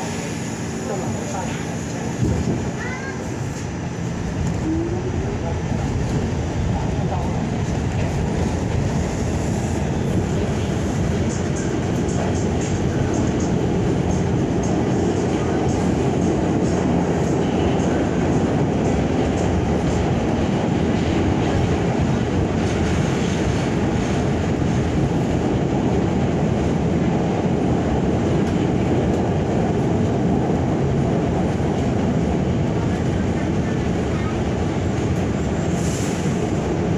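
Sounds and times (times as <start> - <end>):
subway wheels rumbling on rail: 0.0 - 36.9.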